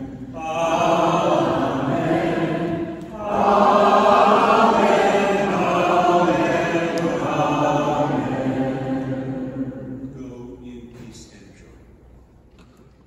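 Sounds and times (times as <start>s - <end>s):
congregation singing: 0.0s - 10.8s
minister singing: 0.0s - 11.2s.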